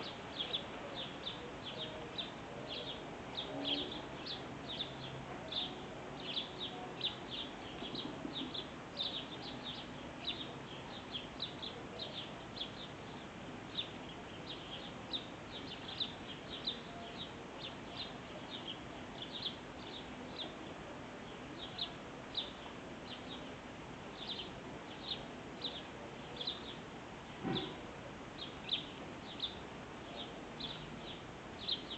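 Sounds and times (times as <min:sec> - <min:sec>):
birds chirping: 0:00.0 - 0:31.9.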